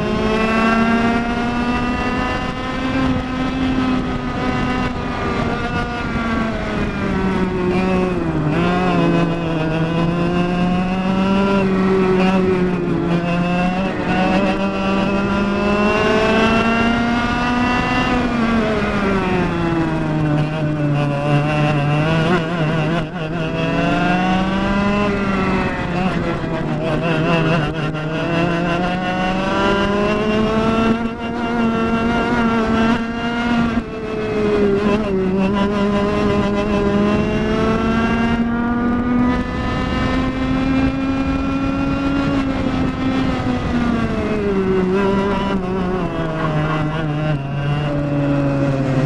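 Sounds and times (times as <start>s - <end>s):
kart engine racing: 0.0s - 49.0s.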